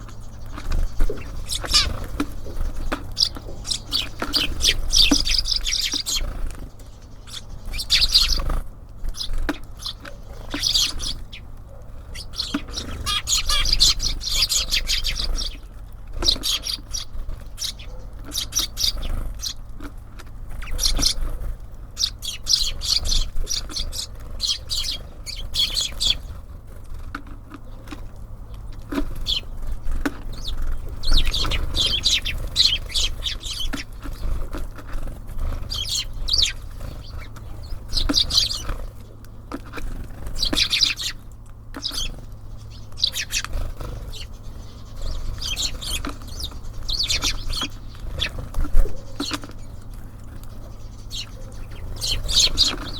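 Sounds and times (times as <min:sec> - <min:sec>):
songbirds chirping: 0:00.0 - 0:52.9.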